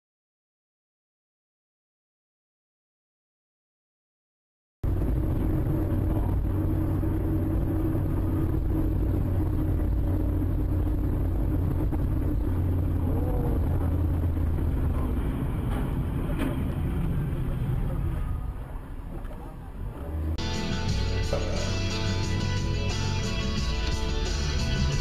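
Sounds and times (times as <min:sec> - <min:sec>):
car engine and tyre rumble: 0:04.8 - 0:25.0.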